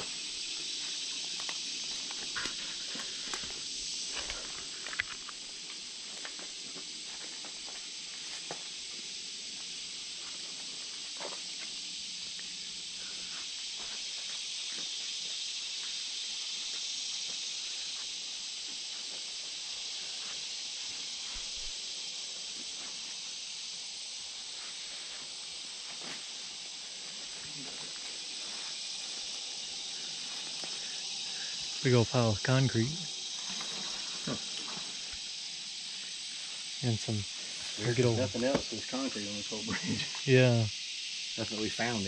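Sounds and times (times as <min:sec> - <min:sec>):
insect chorus hiss: 0:00.0 - 0:42.0.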